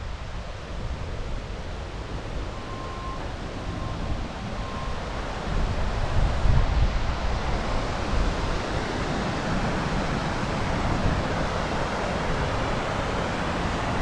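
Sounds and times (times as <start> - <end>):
wind buffeting microphone: 0.0 - 14.0
waterfall rushing: 1.8 - 14.0.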